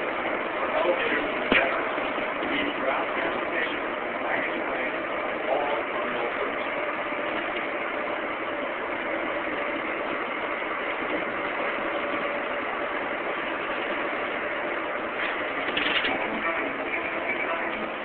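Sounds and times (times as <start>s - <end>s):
faint hum: 0.0s - 18.0s
train rumbling in tunnel: 0.0s - 18.0s.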